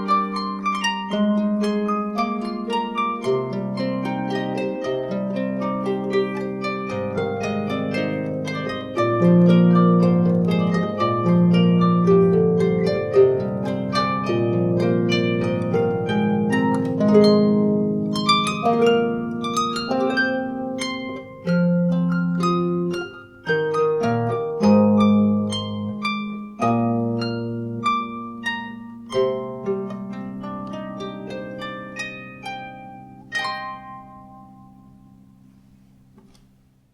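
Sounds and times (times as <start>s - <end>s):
harp plucked melody: 0.0s - 36.7s.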